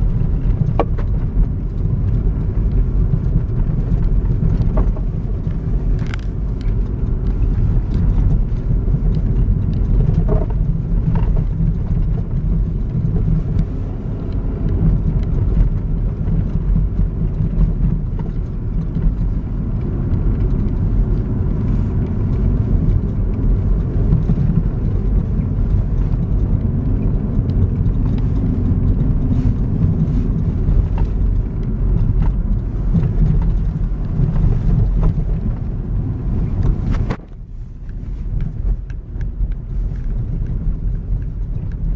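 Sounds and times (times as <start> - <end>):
truck engine and tyres rumbling: 0.0 - 41.9.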